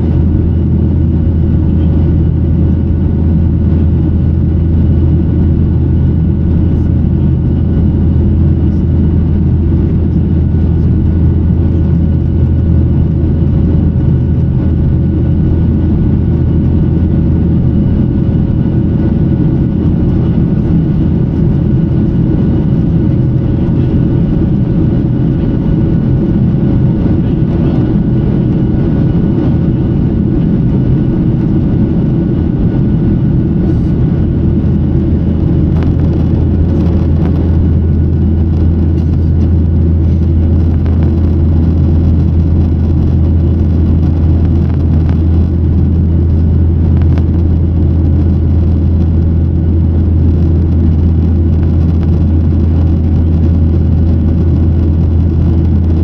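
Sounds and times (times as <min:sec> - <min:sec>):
faint whine tones: 0:00.0 - 0:56.0
jet engines droning: 0:00.0 - 0:56.0.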